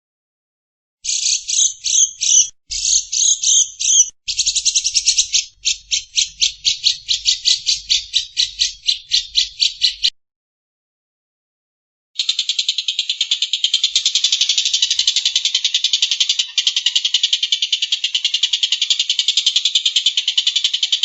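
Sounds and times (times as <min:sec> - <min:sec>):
bird harsh buzzy chattering: 0:01.1 - 0:10.1, 0:12.2 - 0:21.0.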